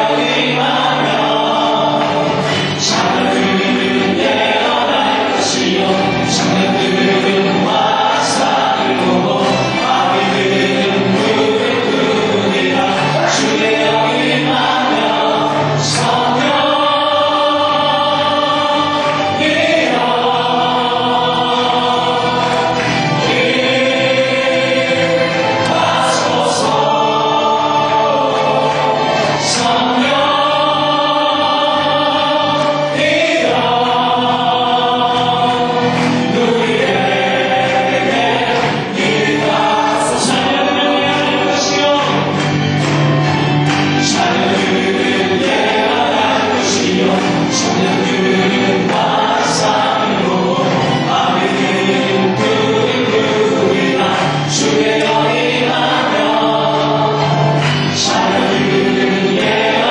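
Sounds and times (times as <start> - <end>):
group singing worship song: 0.0 - 59.9.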